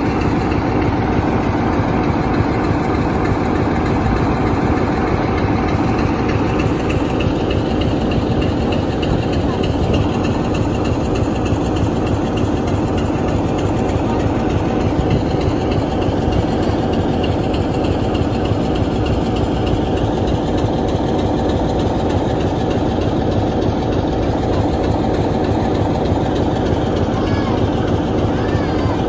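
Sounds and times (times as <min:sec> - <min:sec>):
diesel locomotive idling: 0:00.0 - 0:29.0.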